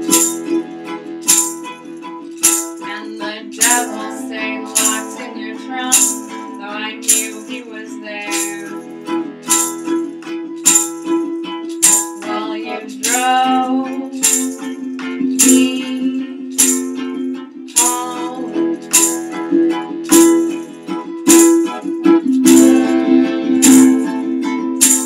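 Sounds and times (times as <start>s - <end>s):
accordion chords: 0.0s - 25.0s
percussion beat: 0.0s - 25.0s
strummed strings: 0.0s - 25.0s
person singing: 2.4s - 10.7s, 11.4s - 25.0s.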